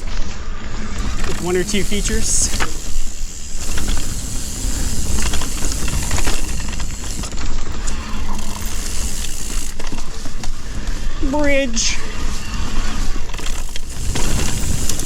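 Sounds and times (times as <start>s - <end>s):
bike tyre noise on dirt: 0.0s - 15.0s
bike knocks and rattles: 1.0s - 11.5s, 13.2s - 15.0s.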